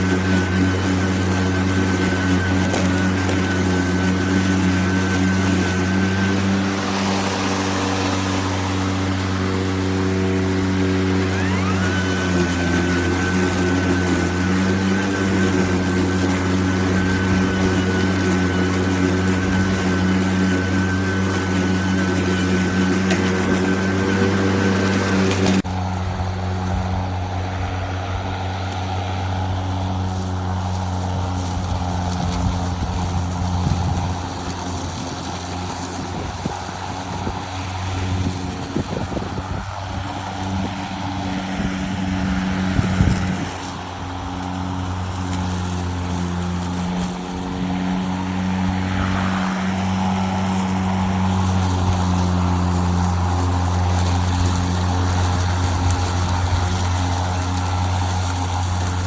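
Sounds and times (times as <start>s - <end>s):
electric lawn mower running: 0.0s - 59.0s.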